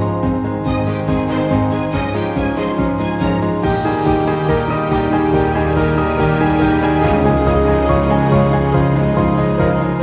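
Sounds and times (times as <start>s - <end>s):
instrumental music with steady pulse: 0.0s - 10.0s.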